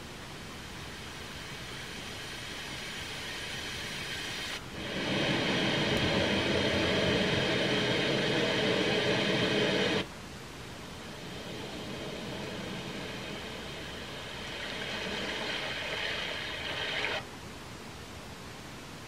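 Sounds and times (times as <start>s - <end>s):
sleep machine noise: 0.0s - 17.3s.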